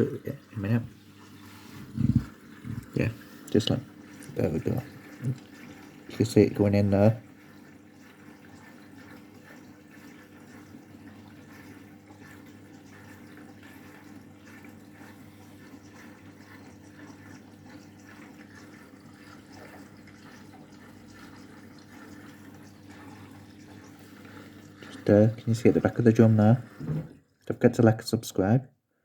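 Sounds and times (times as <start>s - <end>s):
water flowing into washing machine: 0.0s - 28.6s.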